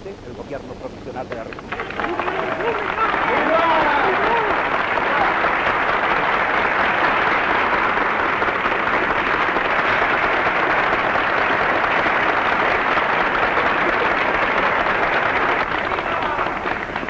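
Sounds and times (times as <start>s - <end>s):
crowd applauding: 1.3s - 17.0s.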